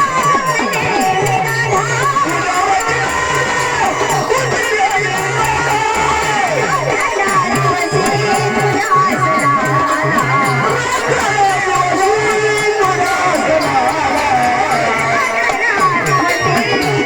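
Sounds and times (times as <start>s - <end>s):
quick percussion beat: 0.0s - 17.0s.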